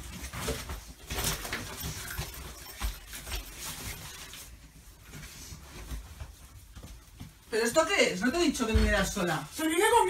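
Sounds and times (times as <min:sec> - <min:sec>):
clothes and fabric bag rustling: 0:00.0 - 0:10.0.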